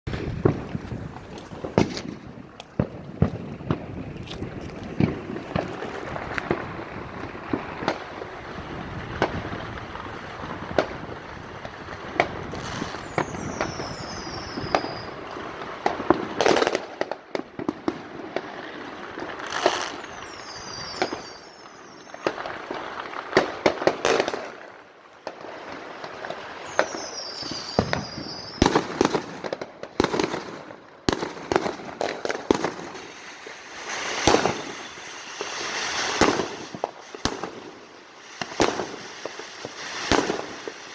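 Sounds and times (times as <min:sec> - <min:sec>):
firecrackers crackling: 0:00.1 - 0:40.9
sharp fireworks bangs: 0:00.1 - 0:40.9
falling firework whistles: 0:05.0 - 0:16.9, 0:19.1 - 0:24.6, 0:25.2 - 0:40.9.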